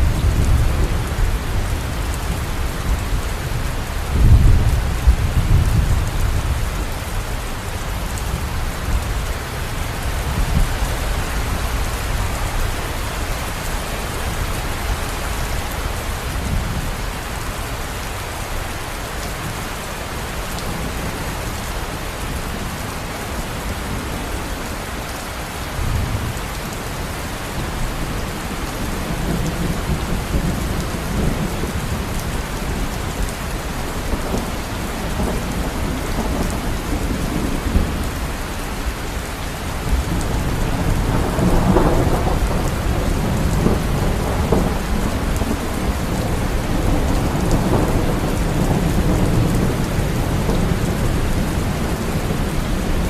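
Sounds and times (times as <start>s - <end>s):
thunder rumbling: 0.0s - 17.8s, 27.6s - 39.2s, 39.8s - 53.0s
heavy rain: 0.0s - 53.0s.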